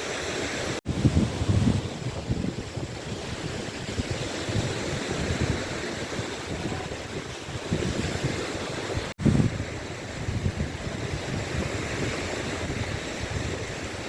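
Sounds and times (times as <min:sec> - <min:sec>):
waves washing on shore: 0:00.0 - 0:14.0
wind gusting on microphone: 0:00.0 - 0:14.0.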